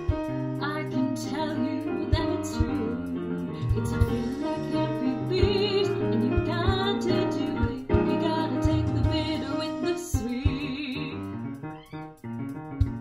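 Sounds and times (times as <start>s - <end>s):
piano accompaniment: 0.0s - 13.0s.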